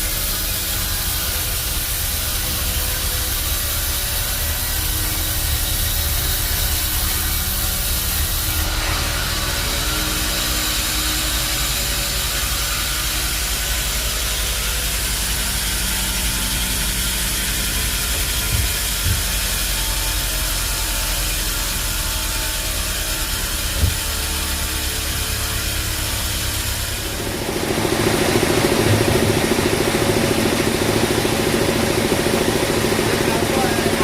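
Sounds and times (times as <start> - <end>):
sawmill machinery humming: 0.0 - 34.0.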